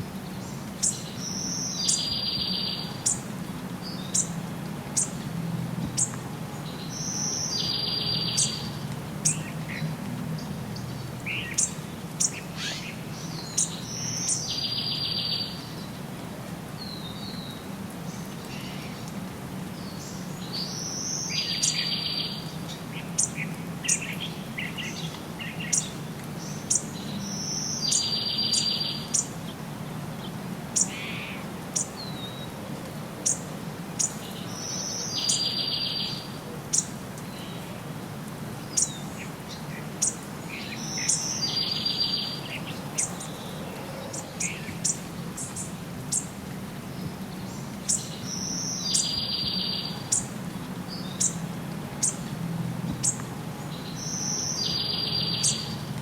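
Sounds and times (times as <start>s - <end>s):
birds chirping: 0.2s - 5.2s, 5.8s - 16.0s, 19.8s - 32.5s, 33.2s - 37.8s, 38.6s - 56.0s.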